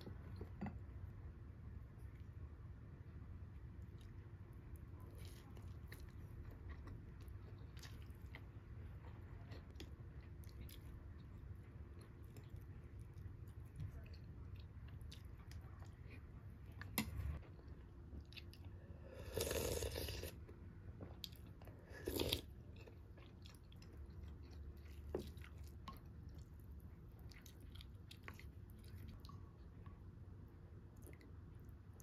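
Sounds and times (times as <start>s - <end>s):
chewing and crunching food: 3.5s - 32.0s.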